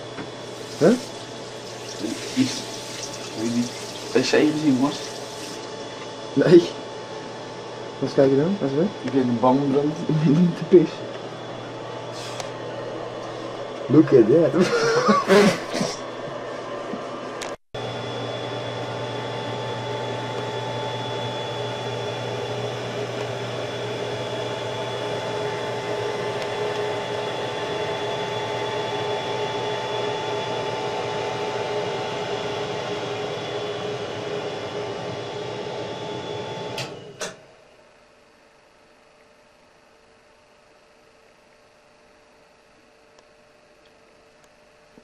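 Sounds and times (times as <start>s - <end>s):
appliance motor hum and whine: 0.0s - 45.0s.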